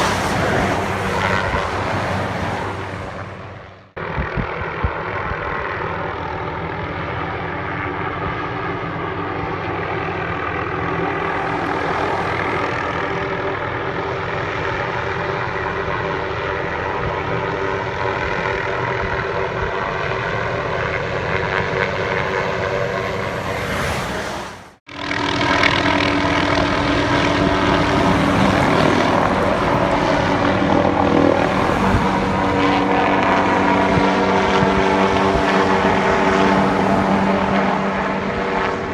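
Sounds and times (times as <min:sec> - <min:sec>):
helicopter rotor and engine drone: 0:00.0 - 0:23.6, 0:24.8 - 0:38.9.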